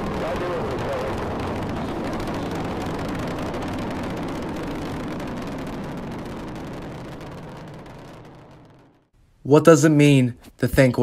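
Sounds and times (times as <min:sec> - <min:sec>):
rocket engines crackling rumble: 0:00.0 - 0:09.1.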